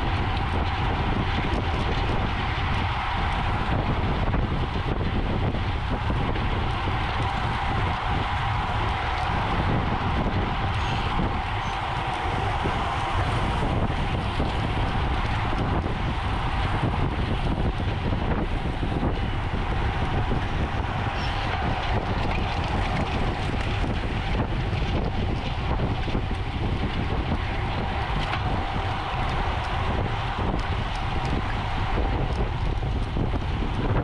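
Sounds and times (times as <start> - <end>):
low rumble of motion: 0.0 - 34.0
wind rushing over microphone: 0.0 - 34.0.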